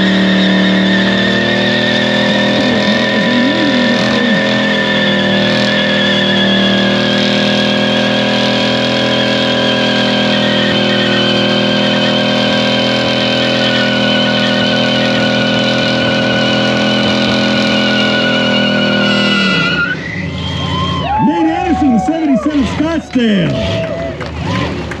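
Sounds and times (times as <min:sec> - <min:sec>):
engine revving high: 0:00.0 - 0:25.0
warbling tire squeal: 0:00.0 - 0:25.0.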